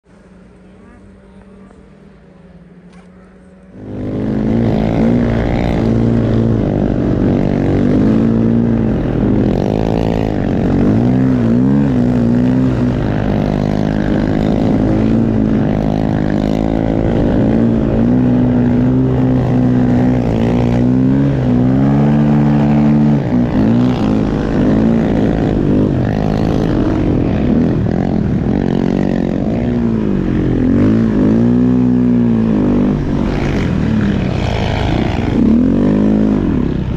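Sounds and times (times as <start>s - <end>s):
dirt bike engine revving: 3.7s - 36.9s.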